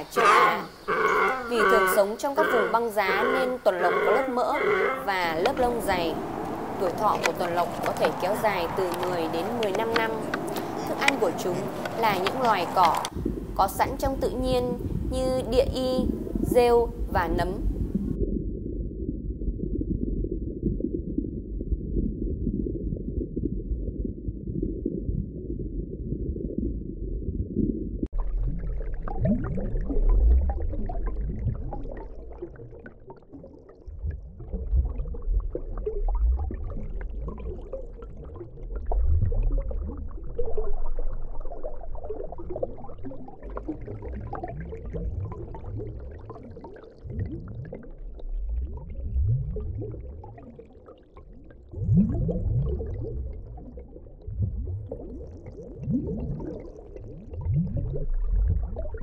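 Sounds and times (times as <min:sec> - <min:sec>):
underwater rumbling and bubbling: 0:00.0 - 0:59.0.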